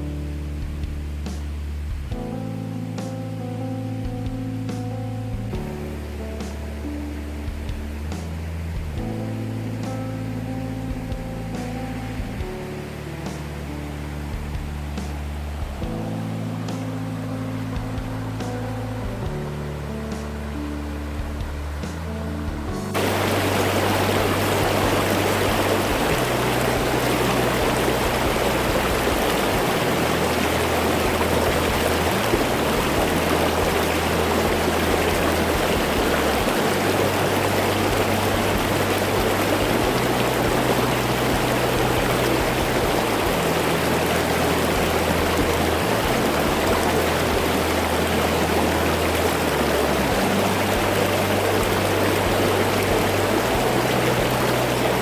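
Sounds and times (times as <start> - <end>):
soft background music: 0.0 - 55.0
stream rushing water: 5.6 - 55.0.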